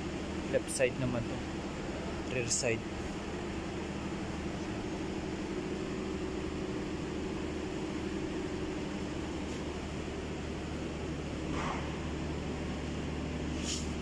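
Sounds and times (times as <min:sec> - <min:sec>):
low mechanical drone: 0:00.0 - 0:14.0.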